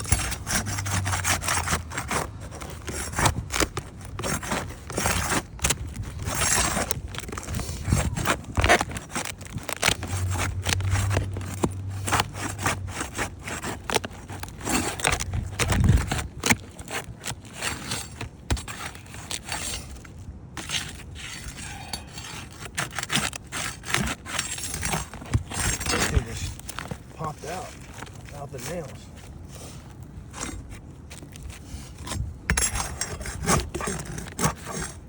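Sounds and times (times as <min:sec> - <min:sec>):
roof shingle scraping and clicking: 0:00.0 - 0:35.0.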